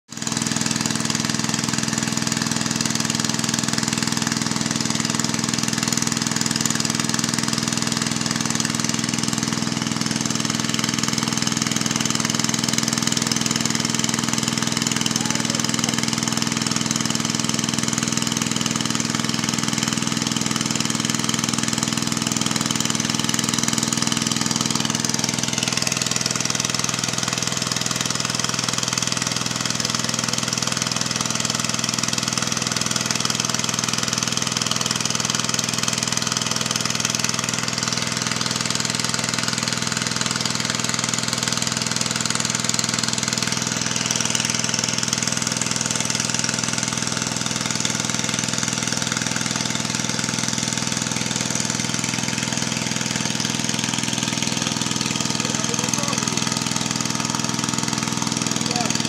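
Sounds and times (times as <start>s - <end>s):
diesel water pump engine running: 0.1s - 59.0s.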